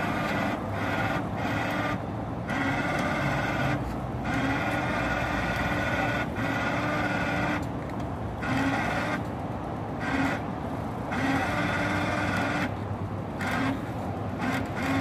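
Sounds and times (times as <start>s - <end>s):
electric winch whining: 0.0s - 7.7s, 8.4s - 9.3s, 9.9s - 15.0s.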